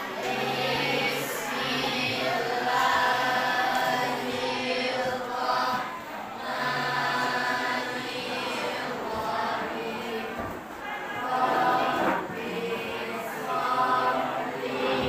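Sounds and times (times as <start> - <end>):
students chanting in unison: 0.0 - 15.0.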